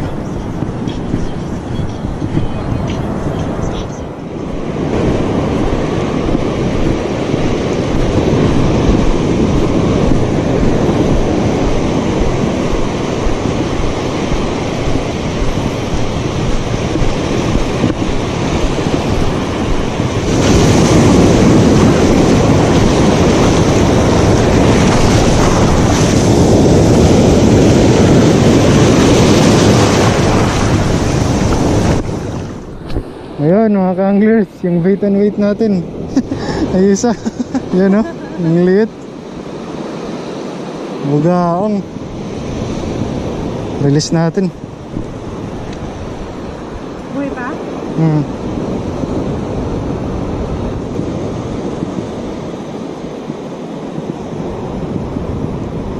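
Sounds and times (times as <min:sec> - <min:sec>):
sea surf washing over sand: 0:00.0 - 0:55.9
wind buffeting microphone: 0:00.0 - 0:55.9.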